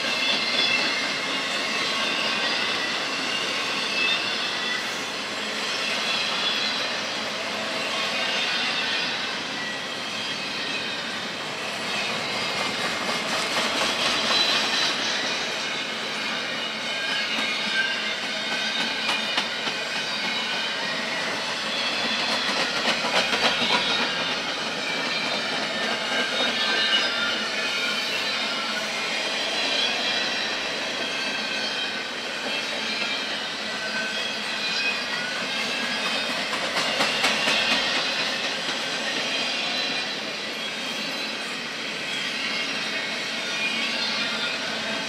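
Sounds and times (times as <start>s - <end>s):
train wheels squealing: 0.0s - 45.0s.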